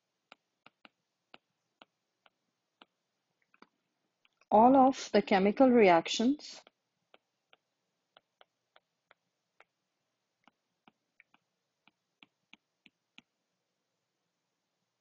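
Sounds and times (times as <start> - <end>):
stylus tapping tablet screen: 0.0 - 13.4.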